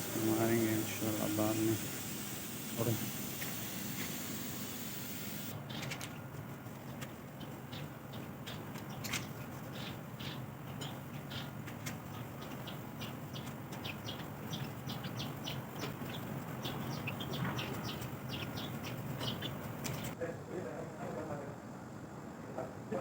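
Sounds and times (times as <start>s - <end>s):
small birds chirping: 0.0s - 20.2s
steady low hum: 0.0s - 23.0s.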